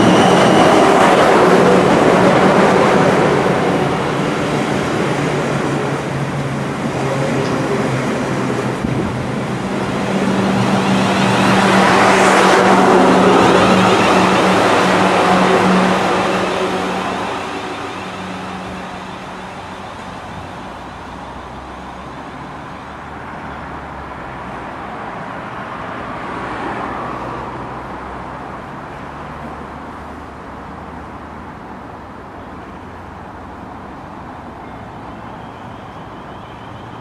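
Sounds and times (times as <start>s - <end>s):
passing train: 0.0s - 37.0s.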